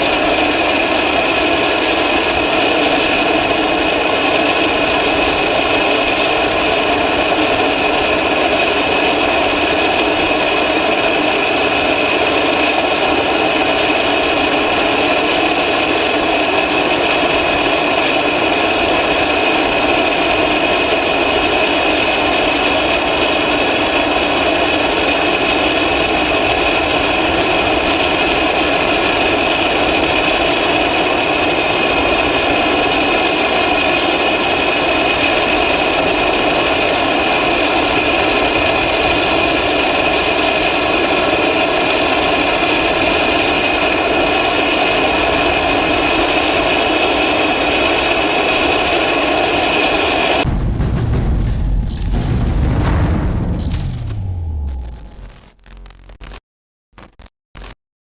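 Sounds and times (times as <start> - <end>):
turboprop engines droning: 0.0 - 56.1
high engine whine: 0.0 - 56.4.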